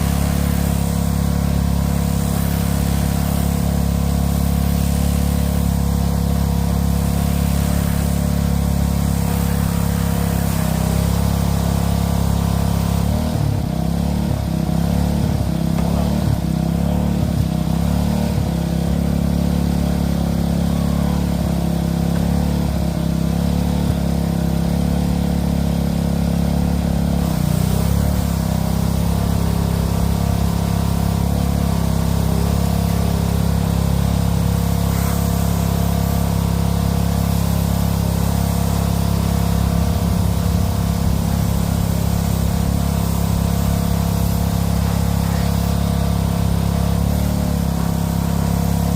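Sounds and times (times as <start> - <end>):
pressure washer engine running: 0.0 - 48.9
water spray hissing: 0.0 - 48.9.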